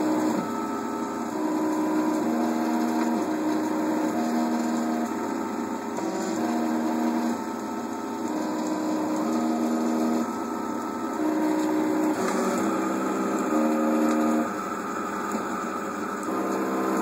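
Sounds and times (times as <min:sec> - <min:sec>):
mechanical hum: 0:00.0 - 0:17.0
stepper motors whining: 0:00.0 - 0:17.0.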